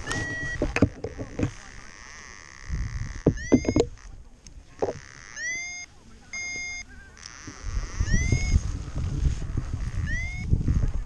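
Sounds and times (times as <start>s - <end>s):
electronic beeps: 0.0s - 8.7s, 9.8s - 10.5s.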